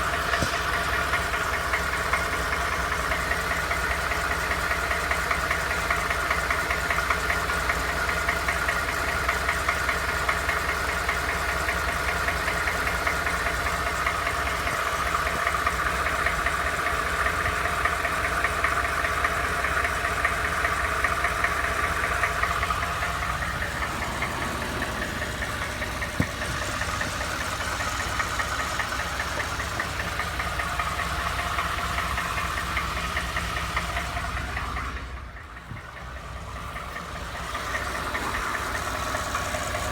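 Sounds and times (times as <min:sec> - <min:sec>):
car engine hum: 0:00.0 - 0:39.9
rapid steady engine knock: 0:00.0 - 0:39.9.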